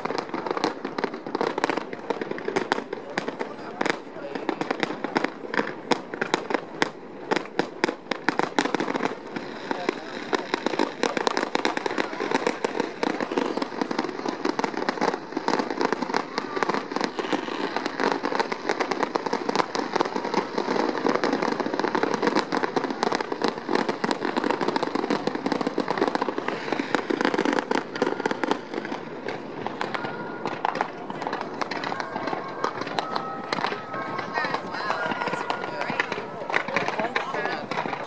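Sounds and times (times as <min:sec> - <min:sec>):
fireworks crackling and banging: 0:00.0 - 0:38.0.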